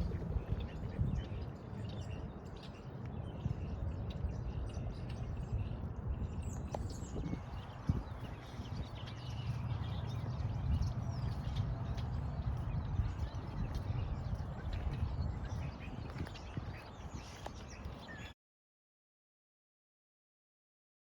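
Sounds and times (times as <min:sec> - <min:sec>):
birds chirping: 0:00.0 - 0:18.4.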